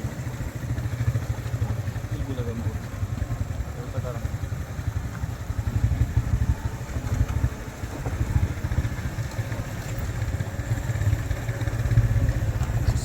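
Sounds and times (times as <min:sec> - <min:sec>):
bass buffeting: 0:00.0 - 0:13.0
vehicle rumble heard on board: 0:00.0 - 0:13.0.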